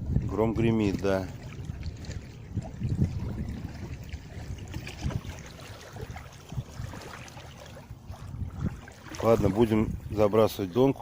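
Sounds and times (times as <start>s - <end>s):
water lapping at shore: 0.0s - 11.0s
wind rumbling on microphone: 0.0s - 11.0s.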